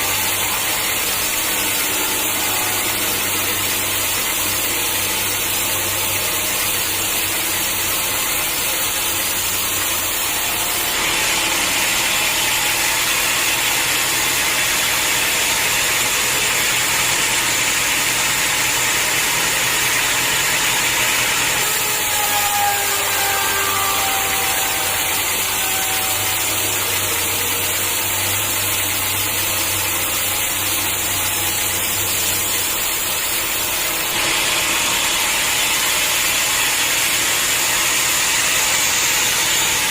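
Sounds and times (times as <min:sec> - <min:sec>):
saw cutting logs: 0:00.0 - 0:39.9
sawmill machinery running: 0:00.0 - 0:39.9.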